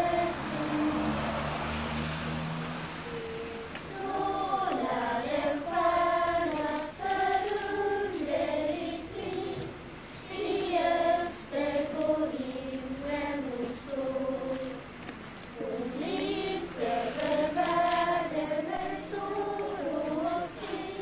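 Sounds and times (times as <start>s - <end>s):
girls choir singing: 0.0s - 2.0s, 3.0s - 21.0s.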